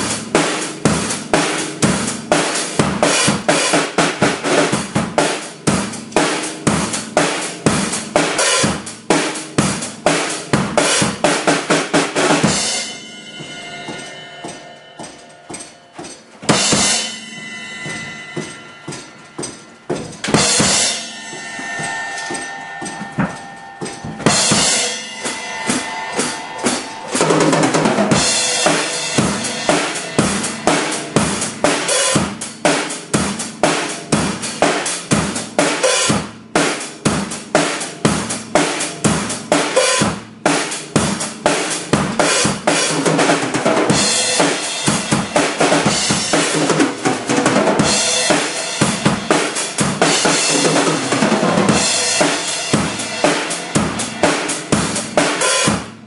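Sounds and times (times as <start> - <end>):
cymbal crashes: 0.0 - 56.0
drum kit groove: 0.0 - 56.0.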